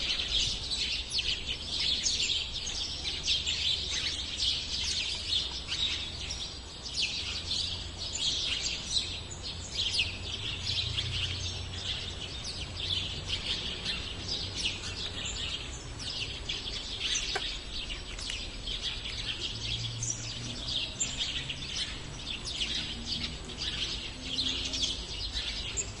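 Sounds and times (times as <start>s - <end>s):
sparrows chirping: 0.0s - 26.0s.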